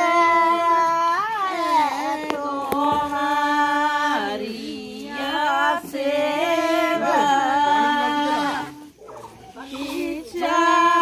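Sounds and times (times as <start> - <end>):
women singing held notes: 0.0 - 11.0.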